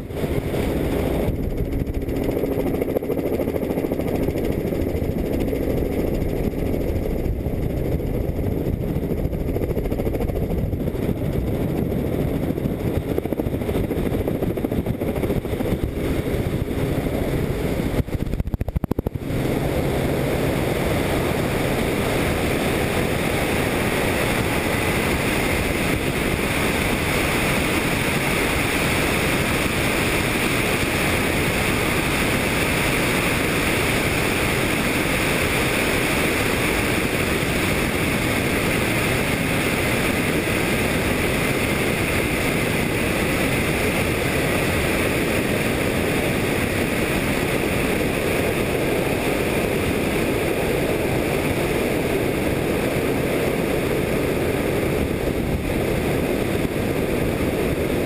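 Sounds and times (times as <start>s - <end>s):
helicopter engine and rotor: 0.0s - 58.0s
wind rushing across microphone: 0.0s - 58.0s.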